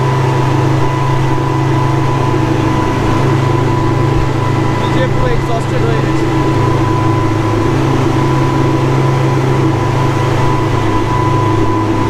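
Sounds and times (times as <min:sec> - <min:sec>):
boat wake rushing: 0:00.0 - 0:12.0
outboard motors droning: 0:00.0 - 0:12.0.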